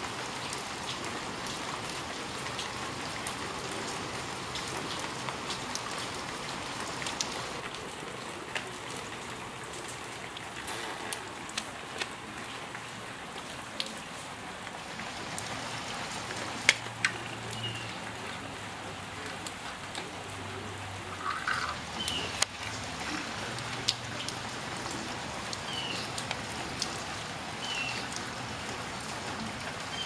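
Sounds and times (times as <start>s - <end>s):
rain on concrete: 0.0s - 30.0s.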